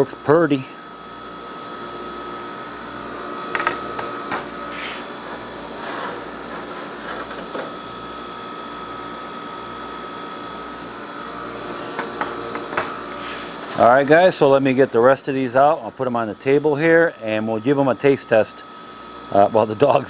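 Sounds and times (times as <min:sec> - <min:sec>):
freeze dryer humming and whining: 0:00.0 - 0:20.0.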